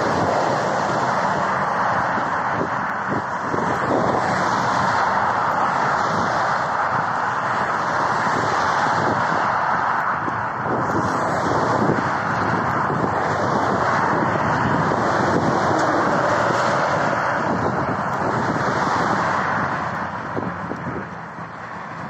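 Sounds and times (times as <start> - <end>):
motorway traffic passing: 0.0 - 22.0.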